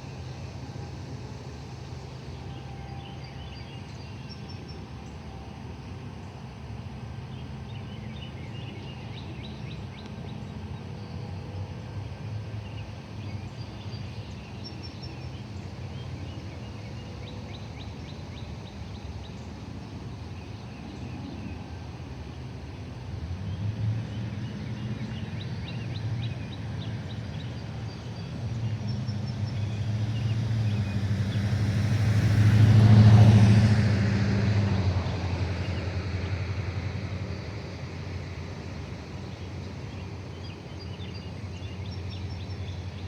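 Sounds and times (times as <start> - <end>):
distant traffic rumble: 0.0 - 43.0.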